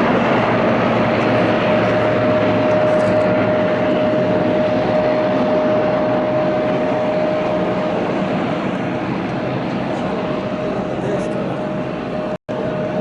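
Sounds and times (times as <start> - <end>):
turboprop airliner taking off: 0.0 - 13.0.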